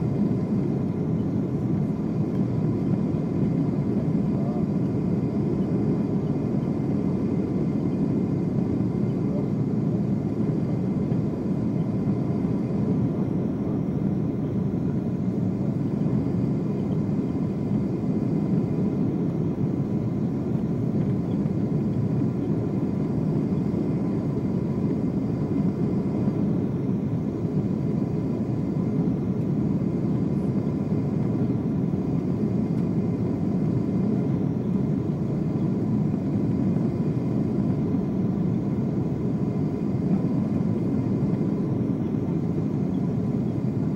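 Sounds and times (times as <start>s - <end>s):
airliner cabin engine noise: 0.0s - 43.9s.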